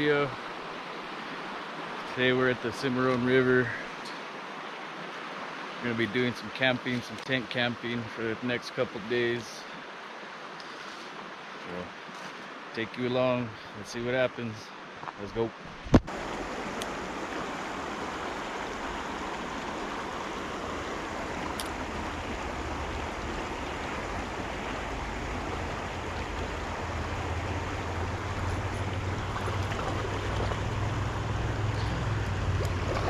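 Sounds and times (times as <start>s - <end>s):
rushing river water: 0.0s - 33.0s.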